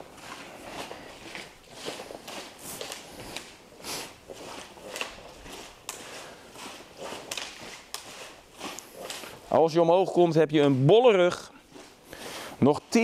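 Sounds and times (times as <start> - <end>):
fabric swishing on mats: 0.0 - 13.0.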